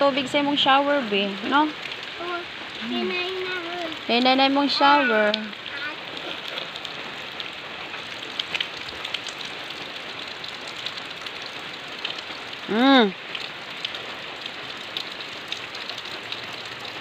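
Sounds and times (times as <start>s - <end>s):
light rain on leaves: 0.0s - 17.0s.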